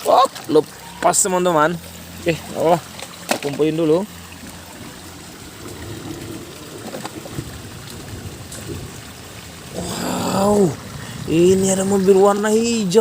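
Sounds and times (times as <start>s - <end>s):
falling rain: 0.0s - 13.0s
trickling water: 0.0s - 13.0s.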